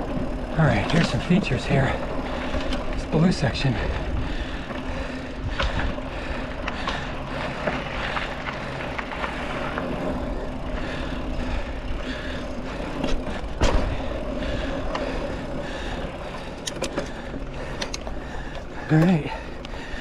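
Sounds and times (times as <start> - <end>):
bike chain and frame rattles: 0.0 - 20.0
bike tyres rumbling on dirt: 0.0 - 20.0.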